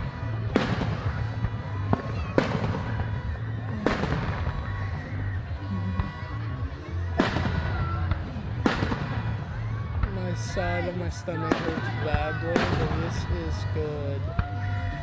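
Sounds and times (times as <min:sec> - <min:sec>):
fireworks bangs with crackling: 0:00.0 - 0:15.0
music playing: 0:00.0 - 0:15.0.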